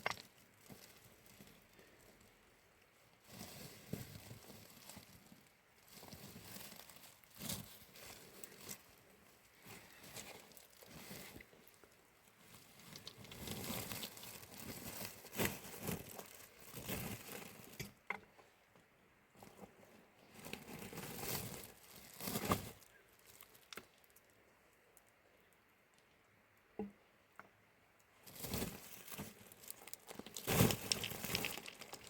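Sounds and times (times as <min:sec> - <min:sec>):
rustling and crinkling handling: 0:00.0 - 0:26.2, 0:28.0 - 0:32.0.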